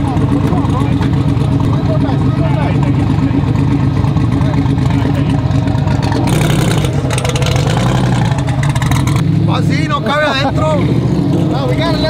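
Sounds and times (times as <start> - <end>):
truck engine idling: 0.0 - 10.8.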